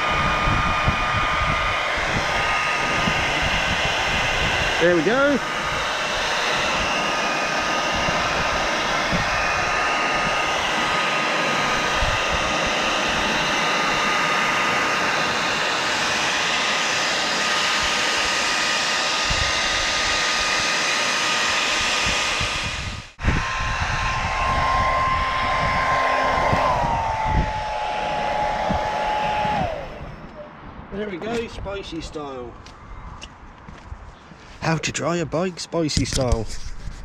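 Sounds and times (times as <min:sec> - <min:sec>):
hairdryer blowing: 0:00.0 - 0:30.4.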